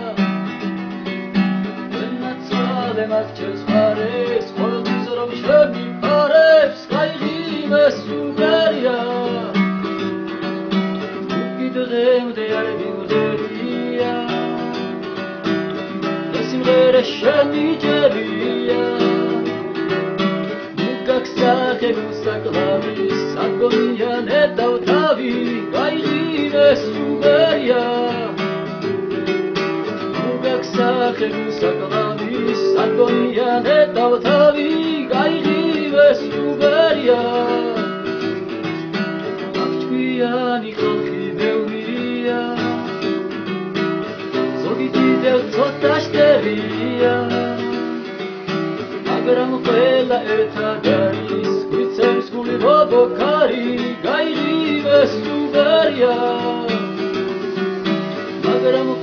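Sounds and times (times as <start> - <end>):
man singing: 0.0 - 0.3, 1.6 - 9.7, 11.2 - 15.0, 16.3 - 19.7, 20.5 - 28.5, 30.1 - 38.3, 39.4 - 43.1, 44.3 - 48.0, 48.9 - 57.5, 58.2 - 59.0
classical guitar: 0.0 - 59.0.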